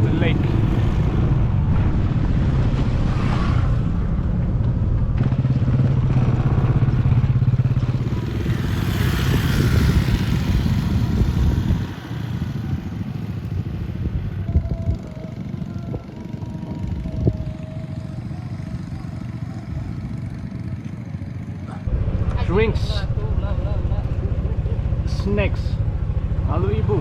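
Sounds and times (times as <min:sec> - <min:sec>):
motorcycle engine running: 0:04.0 - 0:27.0.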